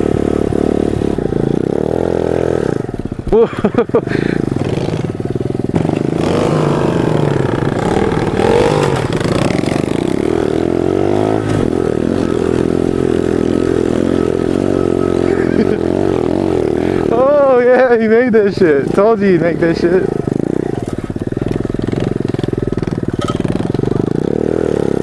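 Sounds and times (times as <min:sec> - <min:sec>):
pit bike engine revving: 0:00.0 - 0:25.0.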